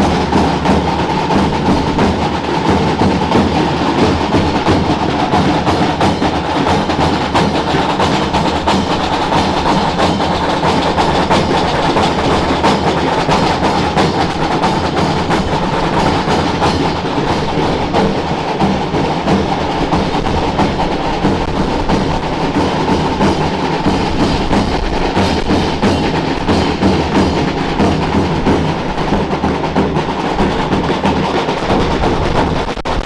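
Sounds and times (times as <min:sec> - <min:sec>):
fast festival drumming: 0:00.0 - 0:33.0.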